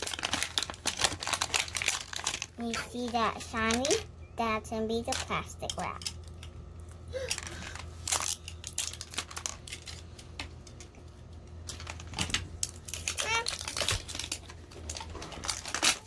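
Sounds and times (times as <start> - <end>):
plastic wrapping crinkling: 0.0 - 4.0, 6.2 - 10.7, 11.3 - 16.0.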